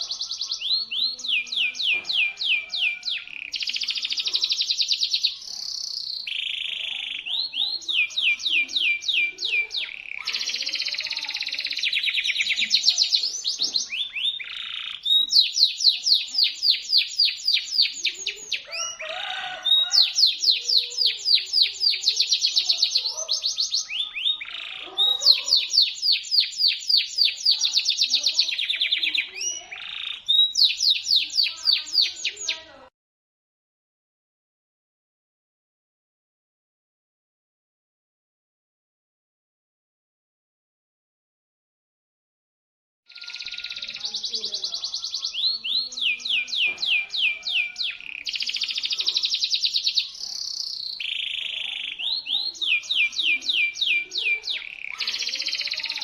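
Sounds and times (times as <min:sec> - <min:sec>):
canary singing trills: 0:00.0 - 0:32.9, 0:43.1 - 0:56.0.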